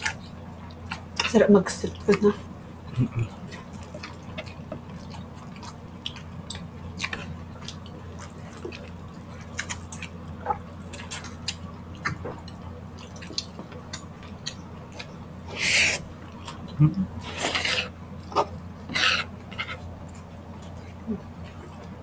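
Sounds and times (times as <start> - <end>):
low steady hum: 0.0 - 22.0
people chewing with mouth clicks: 0.0 - 22.0.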